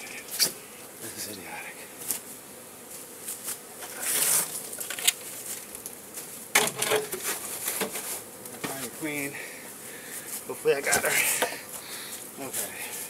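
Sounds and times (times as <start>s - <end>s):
bees buzzing: 0.0s - 13.0s
rustle: 0.0s - 13.0s.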